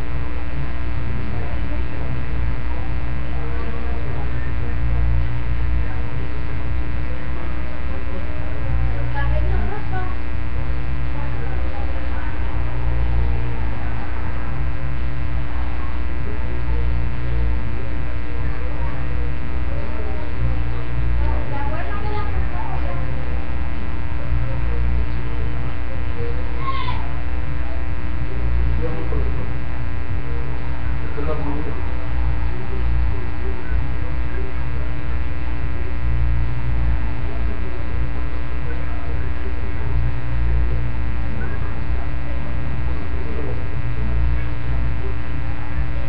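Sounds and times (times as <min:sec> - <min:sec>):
faint voices: 0:00.0 - 0:46.0
loud electrical hum: 0:00.0 - 0:46.0.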